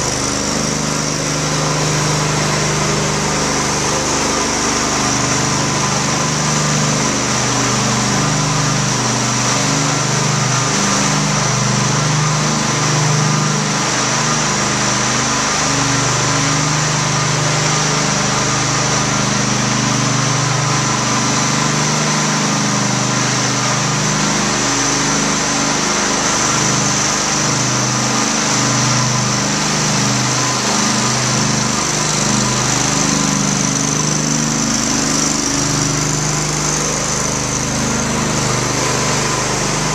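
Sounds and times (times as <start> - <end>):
floor burnisher engine humming: 0.0 - 39.9.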